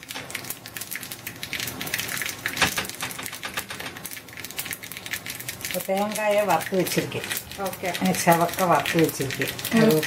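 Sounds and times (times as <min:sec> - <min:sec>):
seeds crackling in hot oil: 0:00.0 - 0:10.0.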